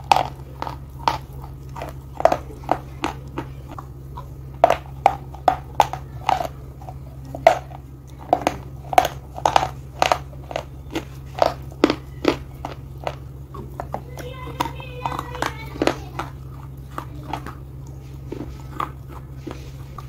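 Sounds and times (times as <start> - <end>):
slate being chewed: 0.0 - 20.0
steady low hum: 0.0 - 20.0.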